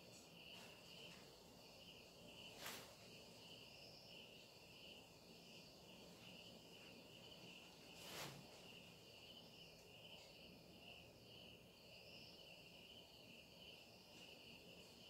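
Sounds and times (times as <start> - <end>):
faint cricket chirring: 0.0 - 15.0
soft hissing sounds: 0.0 - 15.0.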